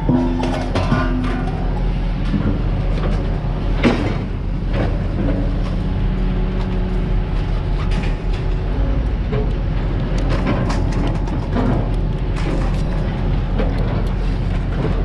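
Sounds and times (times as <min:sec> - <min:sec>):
metal knocks and clanks: 0:00.0 - 0:05.7, 0:07.4 - 0:15.0
engine running: 0:00.0 - 0:15.0.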